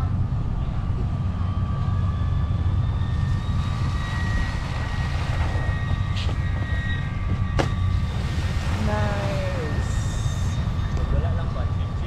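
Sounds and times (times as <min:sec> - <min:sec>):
faint high whining tones: 0:00.0 - 0:12.0
wind rumble on microphone: 0:00.0 - 0:12.0.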